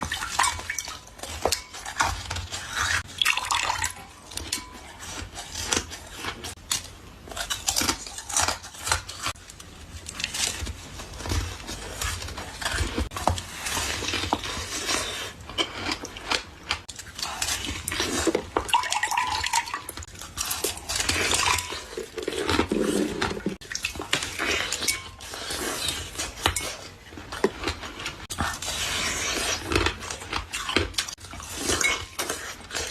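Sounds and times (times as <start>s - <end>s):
wet slushy sounds: 0.0s - 6.6s, 7.4s - 32.9s
ice crunching while chewed: 0.0s - 32.9s.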